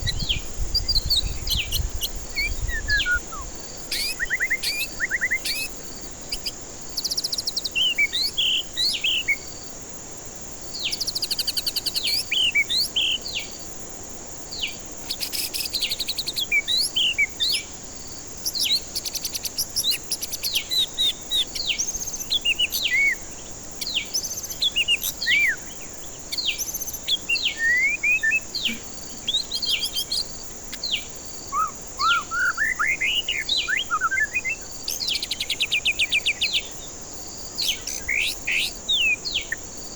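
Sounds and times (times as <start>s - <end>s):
bird singing whistles and trills: 0.0s - 9.6s, 10.7s - 13.6s, 14.5s - 17.7s, 18.4s - 39.6s
high insect drone: 0.0s - 39.9s.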